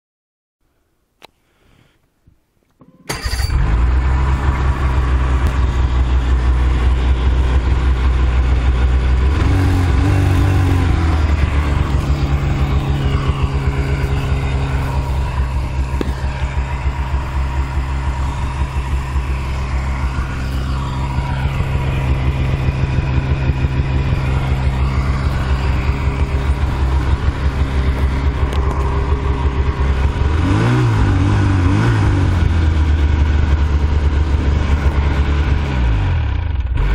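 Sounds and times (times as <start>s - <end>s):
car engine starting and idling: 2.8s - 36.9s
engine revving: 3.1s - 36.9s.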